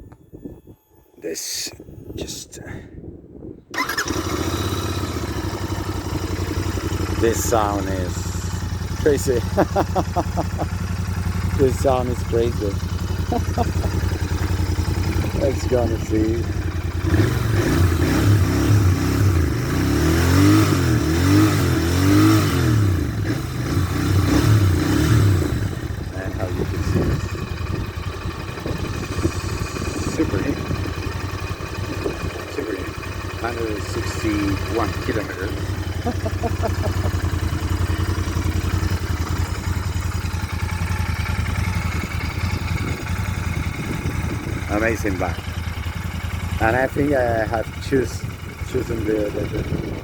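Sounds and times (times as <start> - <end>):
motorcycle engine idling and revving: 3.7 - 50.0.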